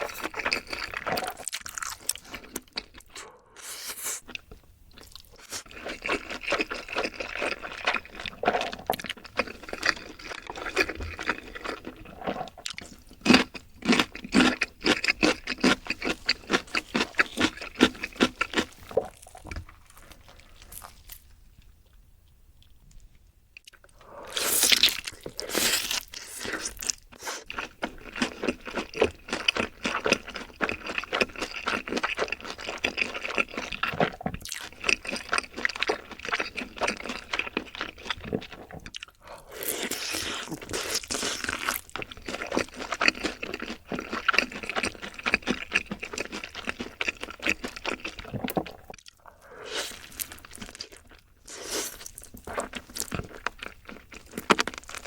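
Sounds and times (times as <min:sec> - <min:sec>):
crunching fried chicken: 0:00.0 - 0:03.2, 0:05.0 - 0:21.3, 0:23.6 - 0:55.0.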